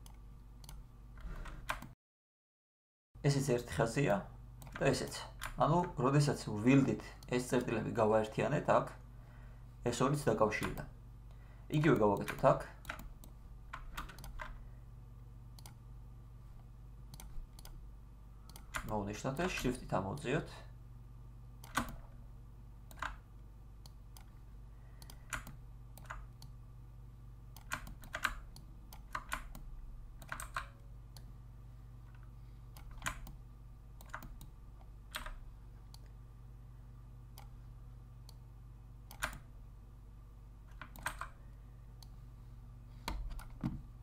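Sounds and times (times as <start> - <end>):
steady low hum: 0.0 - 2.0, 3.2 - 44.0.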